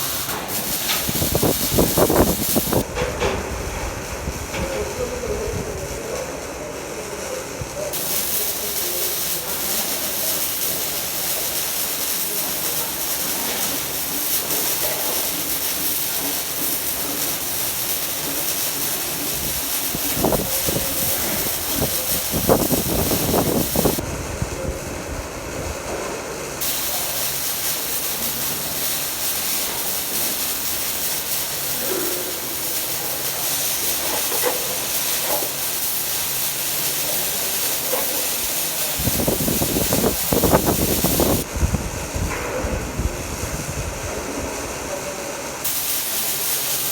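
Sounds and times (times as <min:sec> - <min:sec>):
welding arc hissing: 0:00.0 - 0:46.9.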